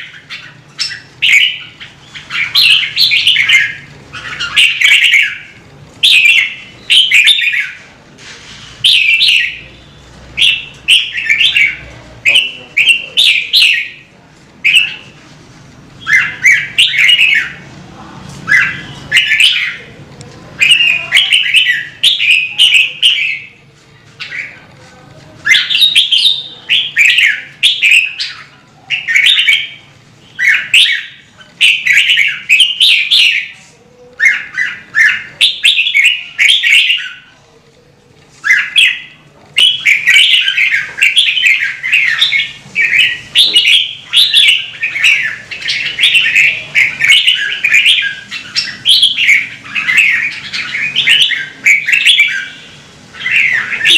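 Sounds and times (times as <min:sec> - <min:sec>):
bulbul chattering song: 0:00.0 - 0:24.8, 0:25.4 - 0:53.9.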